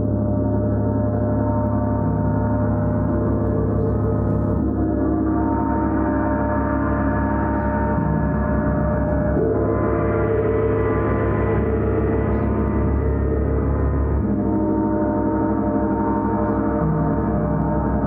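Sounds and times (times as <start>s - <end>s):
gong ringing: 0.0s - 18.0s.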